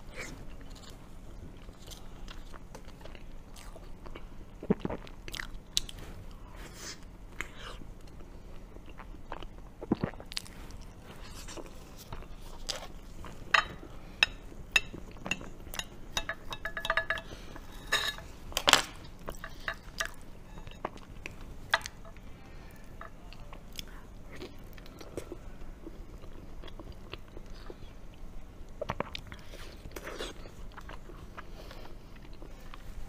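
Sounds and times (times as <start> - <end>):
chewing: 0.1 - 18.3, 19.0 - 32.9.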